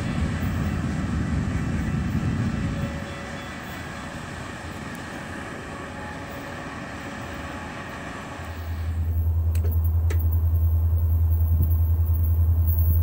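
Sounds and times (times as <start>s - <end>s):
distant freight train rushing: 0.0s - 13.0s
low train rumble: 0.0s - 13.0s.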